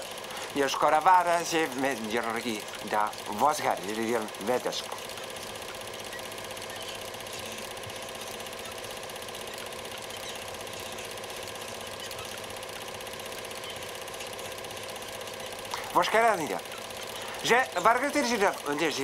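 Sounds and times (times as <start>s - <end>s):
film projector clattering: 0.0s - 19.0s
faint hum: 1.7s - 19.0s.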